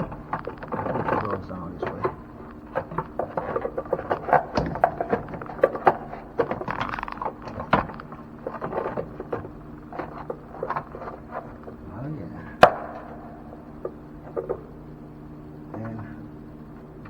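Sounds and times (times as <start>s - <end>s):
clicks and knocks of engine parts: 0.0s - 11.8s, 12.5s - 15.0s.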